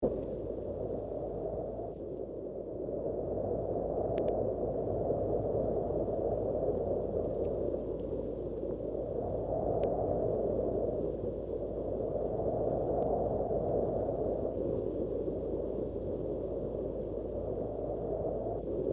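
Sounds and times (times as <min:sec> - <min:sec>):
low steady wind rush: 0:00.0 - 0:18.9.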